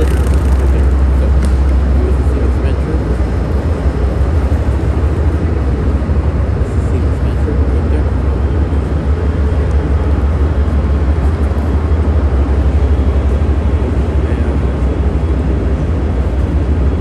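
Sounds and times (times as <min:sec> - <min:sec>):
constant noisy hiss: 0:00.0 - 0:17.0
railcar low rumble: 0:00.0 - 0:17.0.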